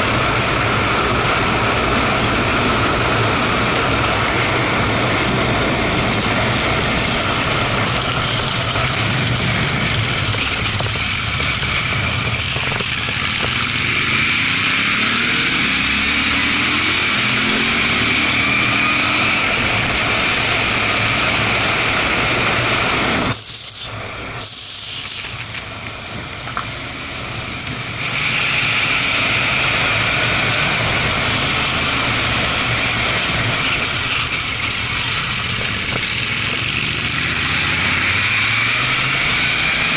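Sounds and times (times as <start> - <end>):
motorcycle engine pulling uphill: 0.0 - 23.4, 25.1 - 39.9.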